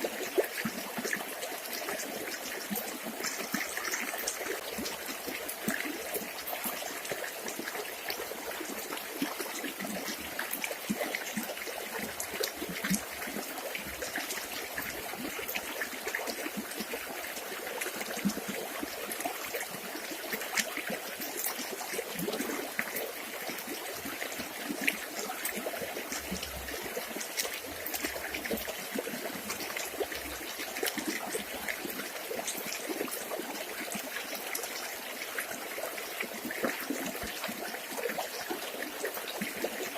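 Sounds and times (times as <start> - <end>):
river flowing and trickling: 0.0 - 39.9
small water splashes: 0.0 - 39.9.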